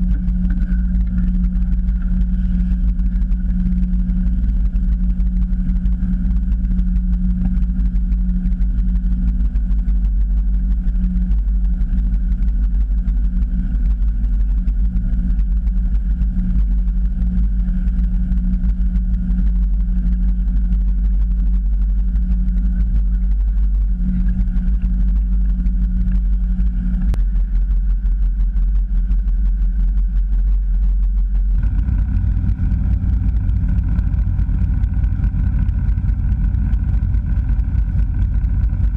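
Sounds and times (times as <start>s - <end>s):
boat engine humming: 0.0s - 38.9s.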